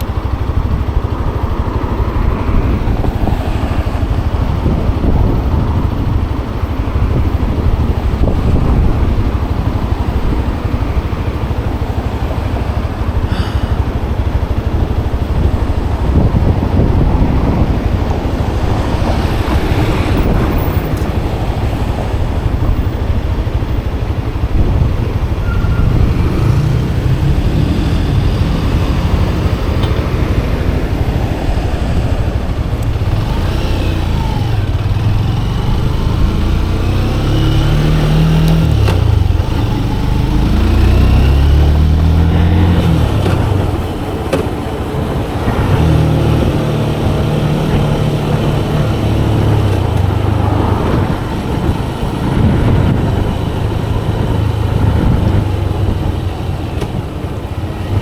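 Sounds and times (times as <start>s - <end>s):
motorcycle engine revving: 0.0s - 58.0s
wind rumble: 0.0s - 58.0s.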